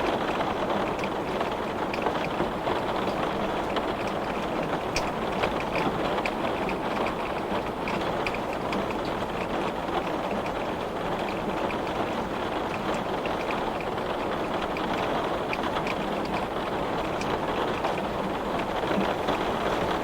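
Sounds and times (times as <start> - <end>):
heavy rain on glass: 0.0 - 20.0.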